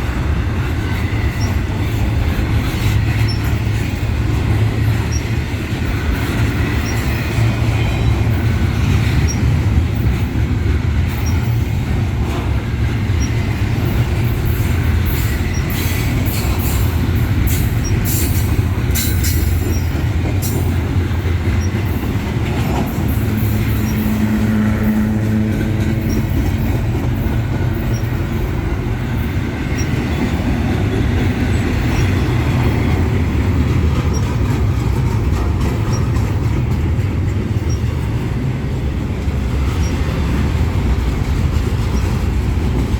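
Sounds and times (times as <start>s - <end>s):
freight train rumble: 0.0s - 42.9s.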